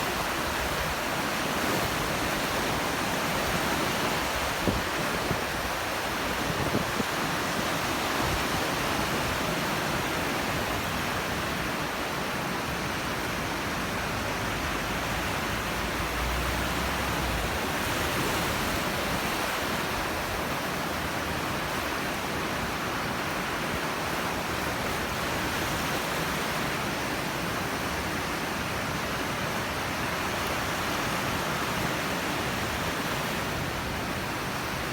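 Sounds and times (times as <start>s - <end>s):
waves breaking on shore: 0.0s - 34.9s.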